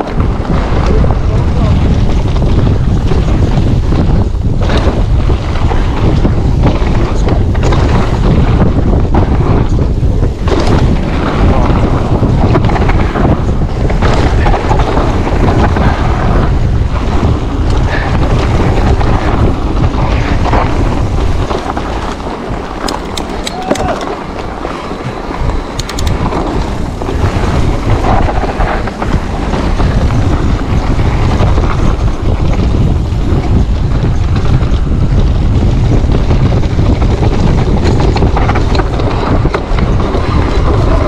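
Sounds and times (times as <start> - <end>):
bike knocks and rattles: 0.0 - 41.0
bike rumble: 0.0 - 41.0
wind buffeting microphone: 0.0 - 41.0.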